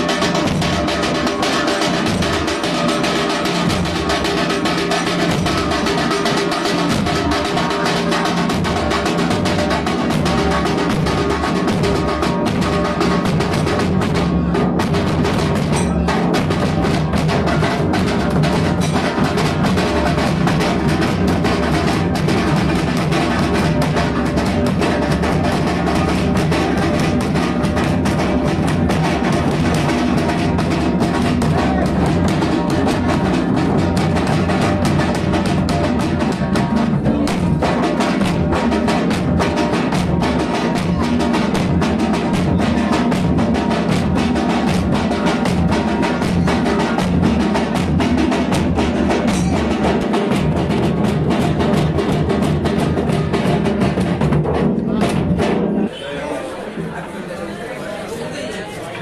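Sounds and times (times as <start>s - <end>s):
fast drumming: 0.0s - 55.9s.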